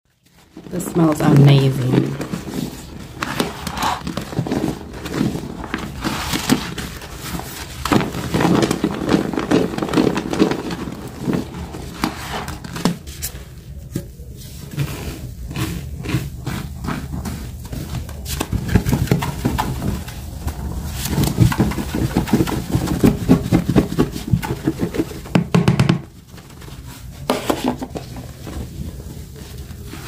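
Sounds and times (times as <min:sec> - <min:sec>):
sponge scrubbing soapy suds: 0:00.3 - 0:13.5, 0:14.3 - 0:25.5, 0:26.7 - 0:30.0.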